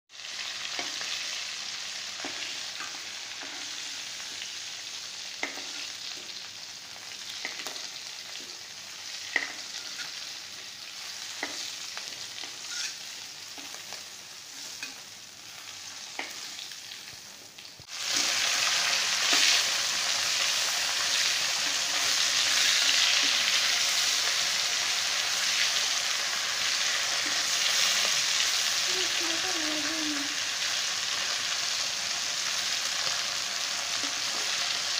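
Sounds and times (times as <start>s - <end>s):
fish sizzling in hot oil: 0.1s - 34.9s.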